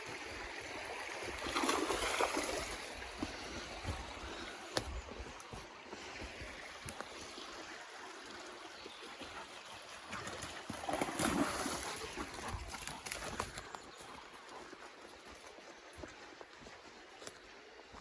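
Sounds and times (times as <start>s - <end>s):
water trickling in a stream: 0.0s - 18.0s.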